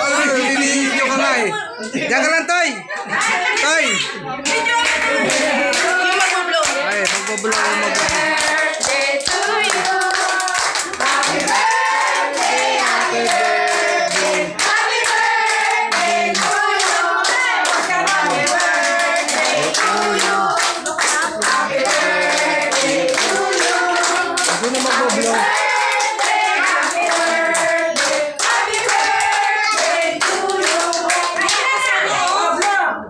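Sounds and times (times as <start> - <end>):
people singing a celebration song: 0.0 - 2.2, 2.8 - 33.0
people clapping along: 3.1 - 33.0.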